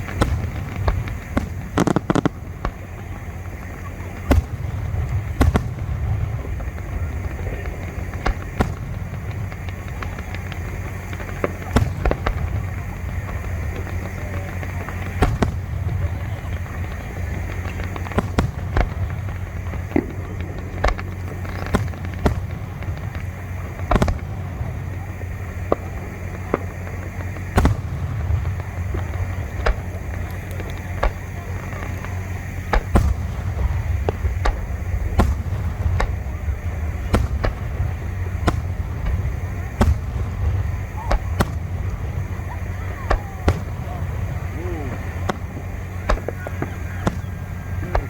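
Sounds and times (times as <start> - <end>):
fireworks bangs and crackles: 0.0 - 48.0
steady low rumble: 0.0 - 48.0.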